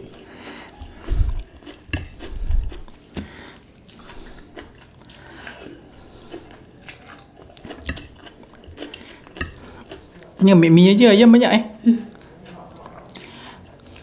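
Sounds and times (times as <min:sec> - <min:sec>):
chewing noodles: 0:00.0 - 0:10.4, 0:12.1 - 0:14.0.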